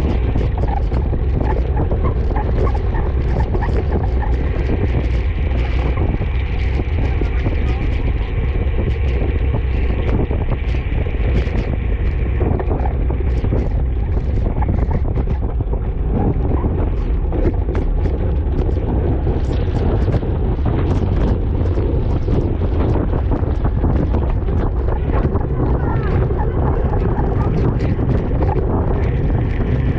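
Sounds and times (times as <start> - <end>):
wet road noise: 0.0 - 29.9
wind buffeting microphone: 0.0 - 29.9.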